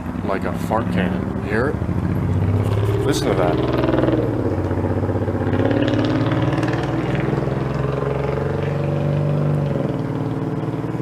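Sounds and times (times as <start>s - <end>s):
car engine and exhaust rumbling: 0.0s - 11.0s.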